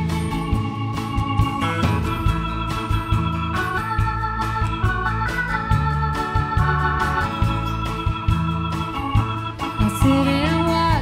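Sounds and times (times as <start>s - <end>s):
bass and drums: 0.0s - 11.0s
organ holding chords: 0.0s - 11.0s.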